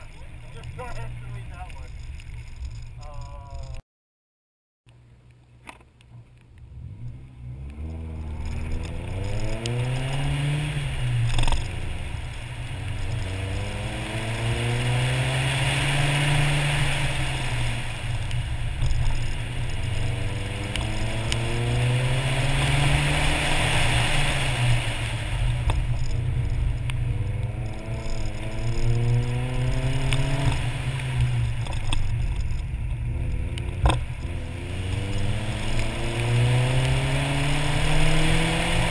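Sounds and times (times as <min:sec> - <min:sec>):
car engine accelerating hard: 0:06.7 - 0:38.9.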